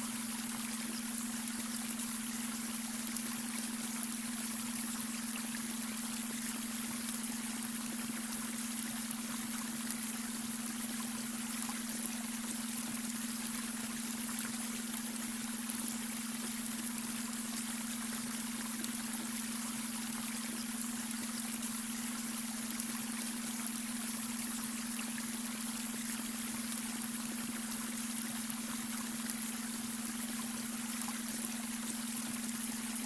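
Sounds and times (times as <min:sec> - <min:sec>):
brook water trickling: 0:00.0 - 0:33.0
constant low hum-like tone: 0:00.0 - 0:33.0.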